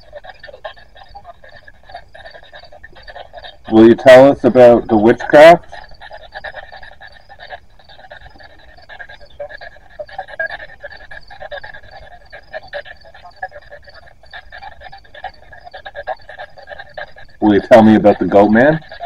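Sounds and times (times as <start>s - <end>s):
choppy radio static: 0.0s - 19.0s.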